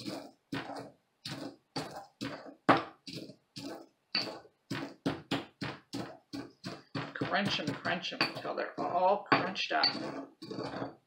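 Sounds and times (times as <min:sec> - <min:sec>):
eggshells crunching in a mortar: 0:00.0 - 0:11.0.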